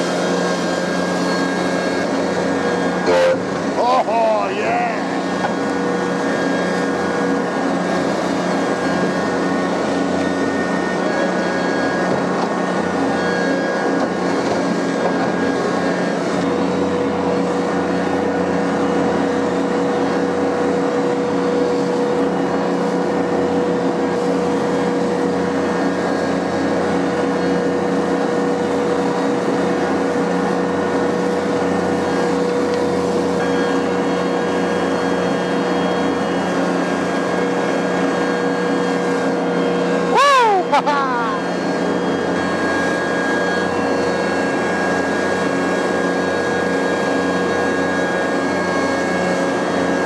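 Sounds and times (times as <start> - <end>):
tractor engine and mower droning: 0.0 - 50.0.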